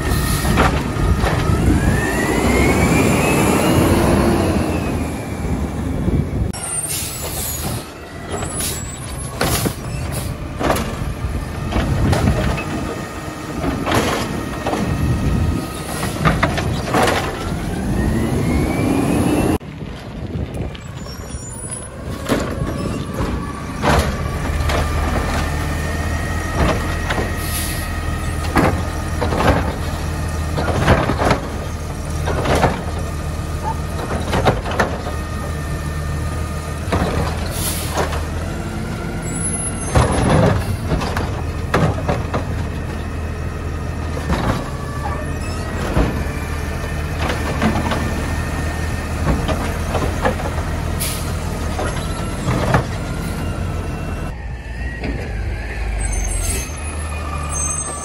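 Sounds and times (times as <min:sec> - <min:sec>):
carts knocking and banging: 0:00.0 - 0:02.6, 0:07.3 - 0:18.3, 0:19.5 - 0:27.6, 0:28.2 - 0:35.7, 0:36.7 - 0:54.4
truck engine and hydraulics whine: 0:00.0 - 0:58.0.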